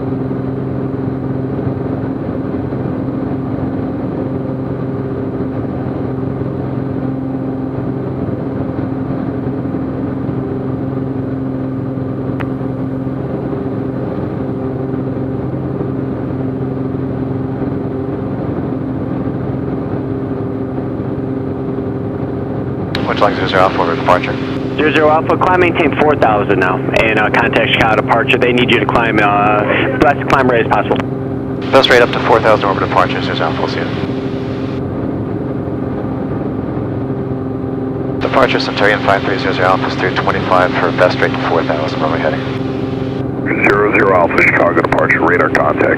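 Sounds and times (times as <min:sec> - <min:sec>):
propeller plane engine drone: 0:00.0 - 0:45.9.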